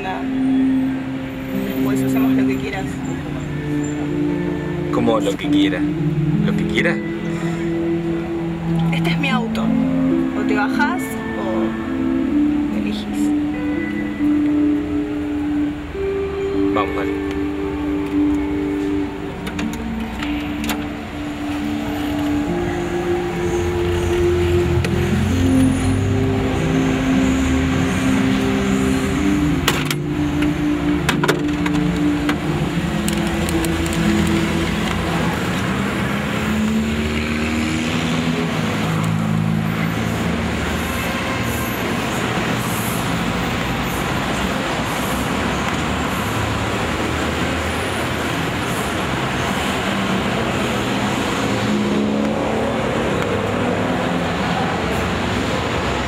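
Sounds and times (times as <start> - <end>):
low droning tones: 0.0 - 47.4
car engine and road noise: 0.0 - 56.0.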